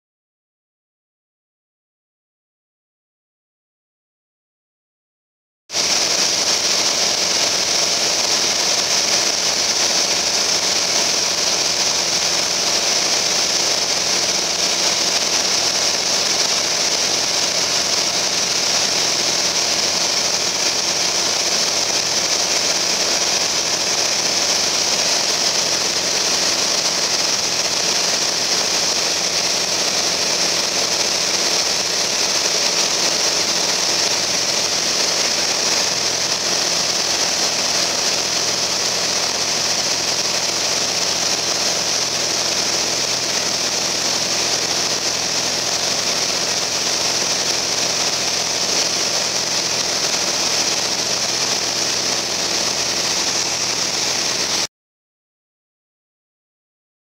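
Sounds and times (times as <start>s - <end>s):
aircraft engine and propeller drone: 5.7s - 54.7s.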